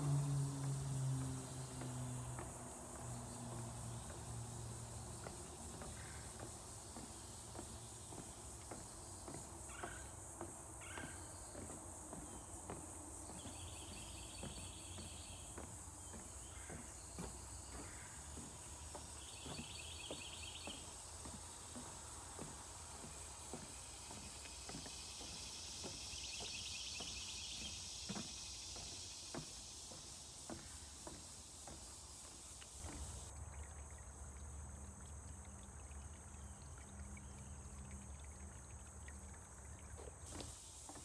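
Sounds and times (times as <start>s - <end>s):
footsteps on wooden boardwalk: 0.0s - 33.3s, 39.9s - 41.0s
high-pitched insect chorus: 0.0s - 41.0s.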